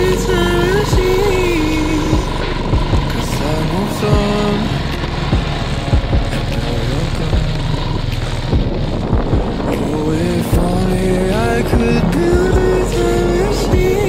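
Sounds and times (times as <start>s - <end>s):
low thumps: 0.0s - 14.0s
motorcycle engine running: 0.0s - 14.0s
wind buffeting microphone: 0.0s - 14.0s.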